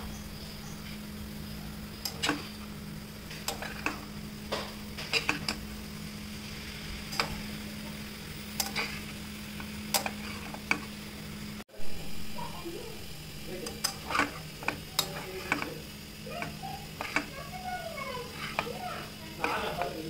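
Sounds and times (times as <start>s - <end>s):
spoon stirring food in pan: 0.4s - 11.5s, 12.4s - 20.0s.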